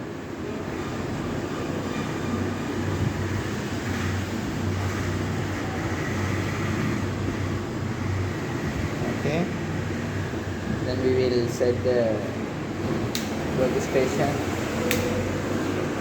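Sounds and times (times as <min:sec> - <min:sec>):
fan whirring: 0:00.0 - 0:16.0.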